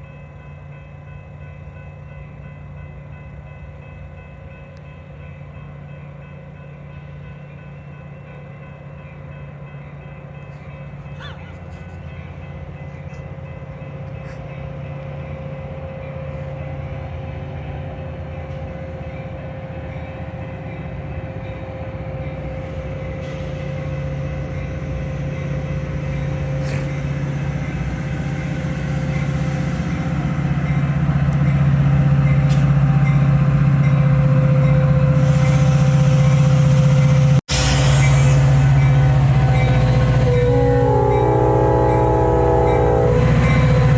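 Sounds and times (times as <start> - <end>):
diesel locomotive engine drone: 0.0 - 43.9.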